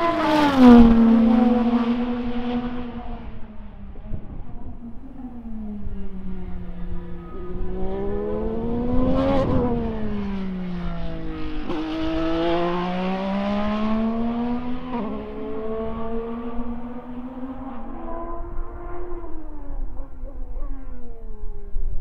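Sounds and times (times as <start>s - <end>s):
race car engine at speed: 0.0s - 21.8s.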